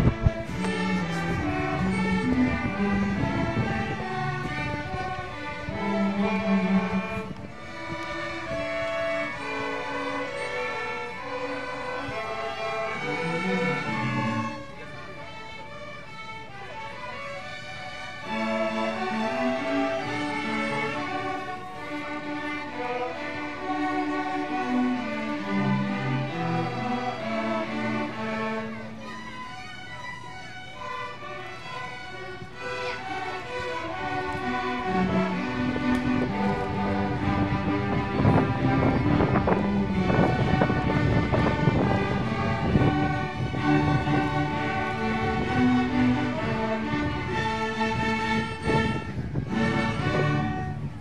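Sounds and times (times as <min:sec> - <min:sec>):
string orchestra playing: 0:00.0 - 0:51.0.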